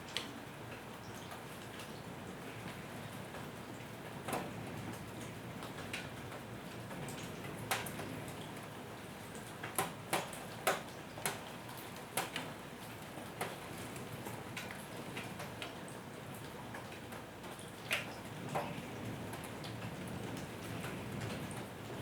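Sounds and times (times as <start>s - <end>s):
light rain hiss: 0.0s - 22.0s.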